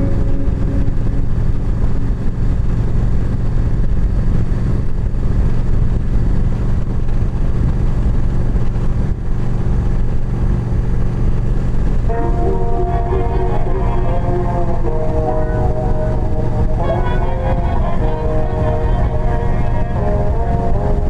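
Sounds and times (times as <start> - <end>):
motorcycle engine rumble: 0.0 - 21.0
wind noise: 0.0 - 21.0.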